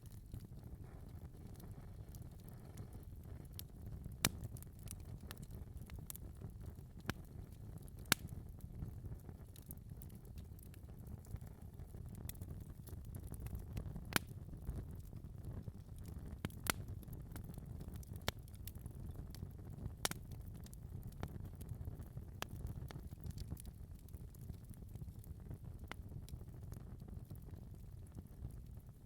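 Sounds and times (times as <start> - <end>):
fire crackles and pops: 0.0 - 29.0
wood fire burning: 0.0 - 29.0.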